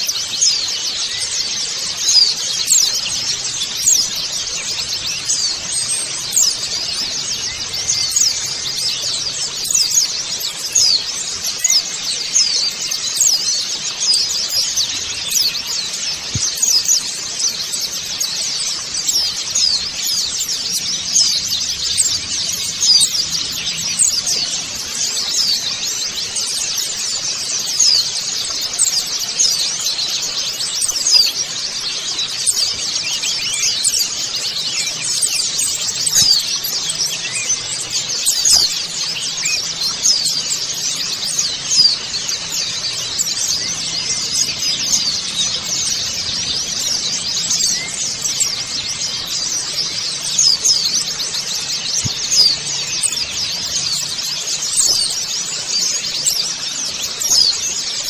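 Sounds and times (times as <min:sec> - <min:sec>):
small birds chattering and singing: 0:00.0 - 0:58.0.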